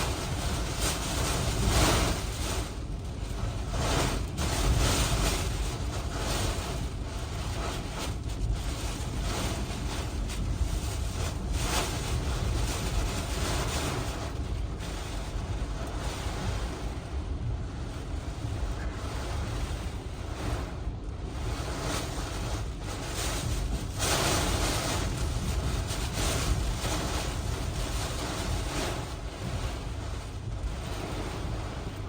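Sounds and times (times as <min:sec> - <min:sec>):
strong wind gusts: 0:00.0 - 0:32.0
wind buffeting microphone: 0:00.0 - 0:32.0.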